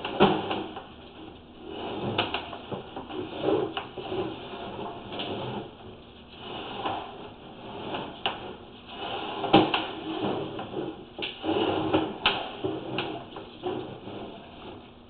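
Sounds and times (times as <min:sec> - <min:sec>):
push rod scraping in pipe: 0:00.0 - 0:14.9.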